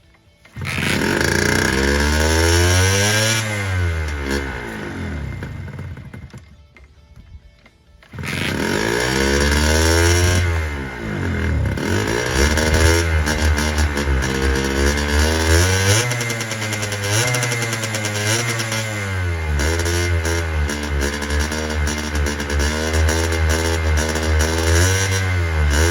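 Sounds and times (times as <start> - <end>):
two-stroke engine revving: 0.5 - 6.5, 8.0 - 25.9.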